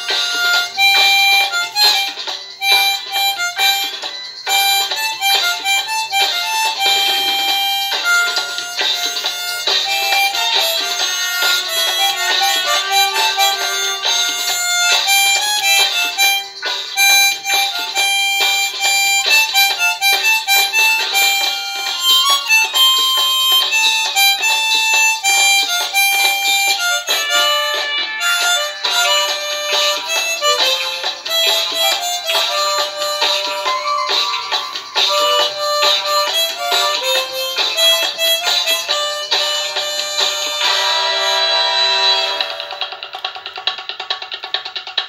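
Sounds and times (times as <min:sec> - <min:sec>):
harmonica melody: 0:00.0 - 0:43.1.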